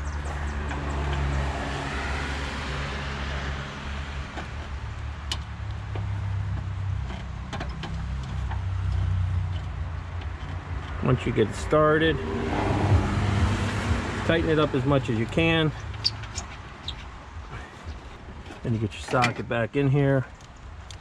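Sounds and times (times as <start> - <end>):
motor vehicle rumbling: 0.0 - 21.0.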